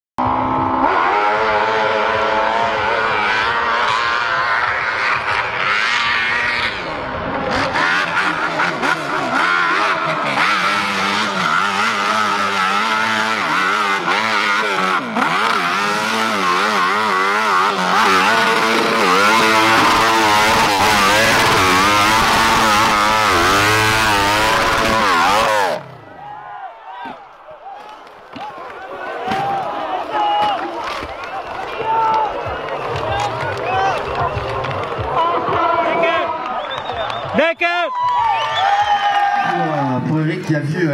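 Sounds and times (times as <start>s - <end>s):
motorcycle engines revving: 0.2s - 26.3s, 26.9s - 37.4s.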